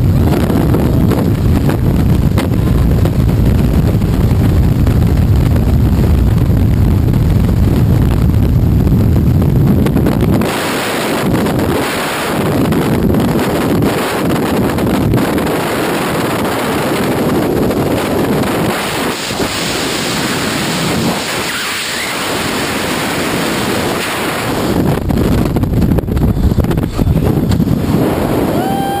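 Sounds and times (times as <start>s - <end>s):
wind rushing on microphone: 0.0s - 29.0s.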